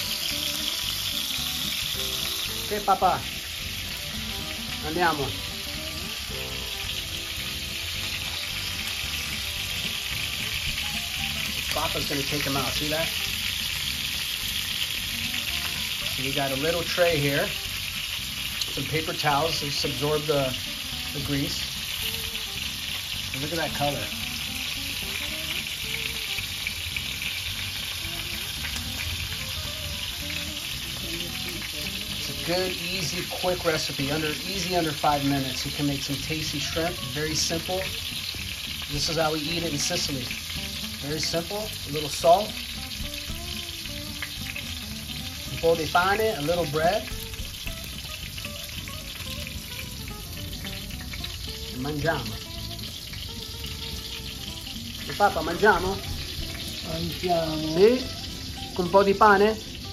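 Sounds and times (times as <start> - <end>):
shrimp sizzling in oil: 0.0 - 59.9.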